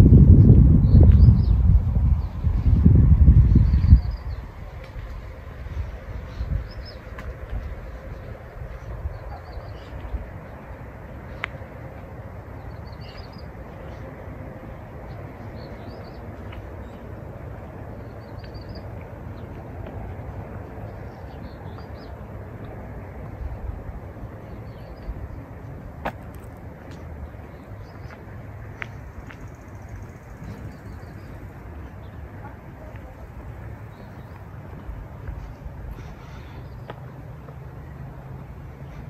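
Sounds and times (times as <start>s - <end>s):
steady low rumble: 0.0s - 39.0s
songbirds chirping: 0.3s - 39.0s.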